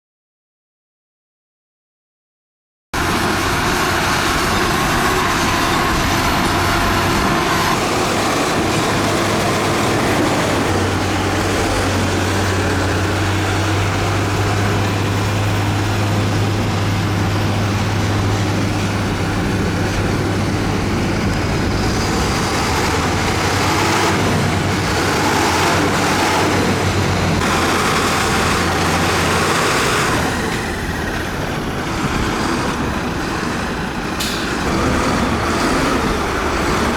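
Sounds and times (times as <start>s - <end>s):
diesel engine running: 3.0s - 36.9s.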